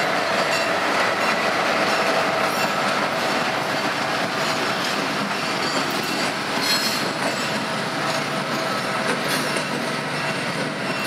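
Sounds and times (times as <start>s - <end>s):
diesel locomotive passing: 0.0s - 11.0s
wheel-on-rail noise: 0.0s - 11.0s.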